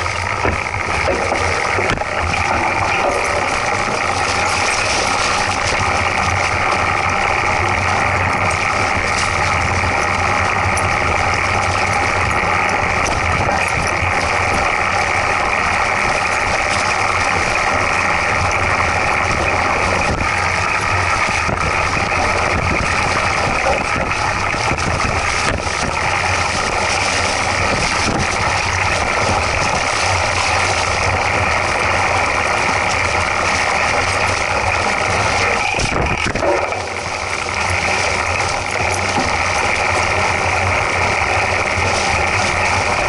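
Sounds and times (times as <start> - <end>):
bike tyres rolling on leaves: 0.0 - 43.0
wind noise: 0.0 - 43.0.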